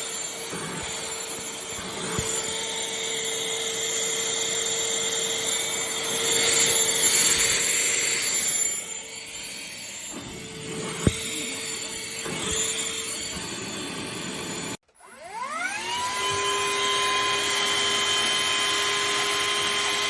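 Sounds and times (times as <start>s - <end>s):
handheld vacuum running: 0.0s - 20.0s.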